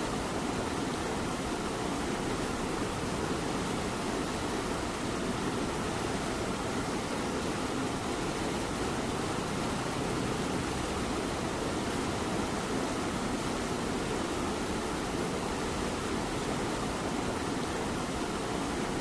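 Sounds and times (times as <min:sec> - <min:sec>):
light rain falling: 0:00.0 - 0:19.0.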